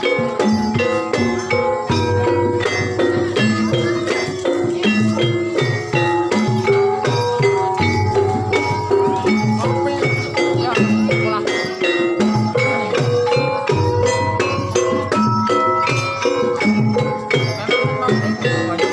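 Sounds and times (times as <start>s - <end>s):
rattling jingle: 0.0s - 18.9s
tuned mallet percussion melody: 0.0s - 18.9s.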